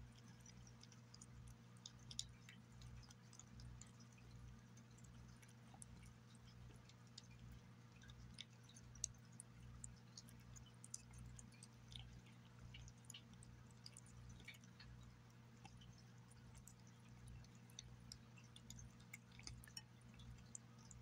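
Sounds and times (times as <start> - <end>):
cat chewing and licking: 0.0 - 21.0.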